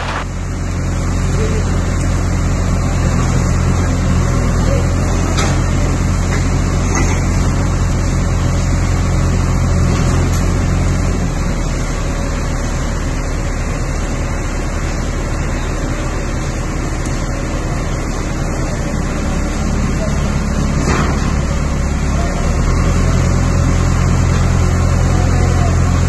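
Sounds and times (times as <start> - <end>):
diesel engine running: 0.0 - 26.0
street noise: 0.0 - 26.0.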